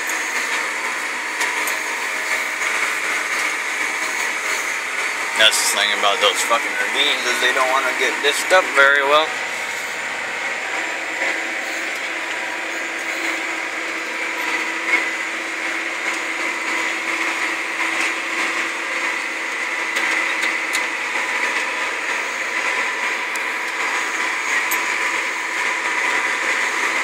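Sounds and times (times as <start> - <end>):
tractor engine droning: 0.0 - 27.0.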